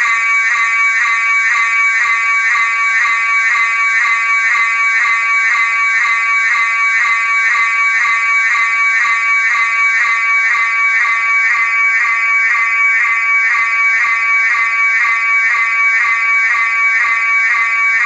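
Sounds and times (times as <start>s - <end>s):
fire alarm ringing: 0.0s - 18.0s.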